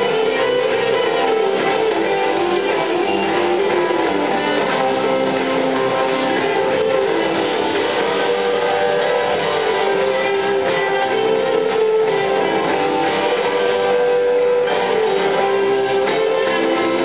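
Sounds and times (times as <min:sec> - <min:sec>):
drums and bass: 0:00.0 - 0:17.0
electric guitars: 0:00.0 - 0:17.0.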